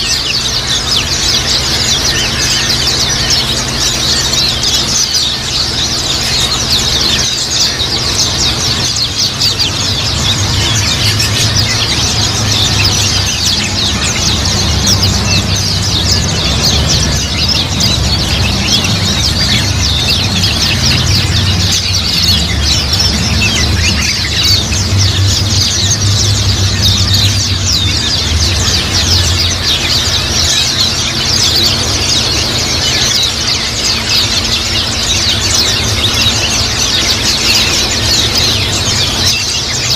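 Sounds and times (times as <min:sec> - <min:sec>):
birds chirping and twittering: 0:00.0 - 0:39.9
steady low hum: 0:00.0 - 0:39.9.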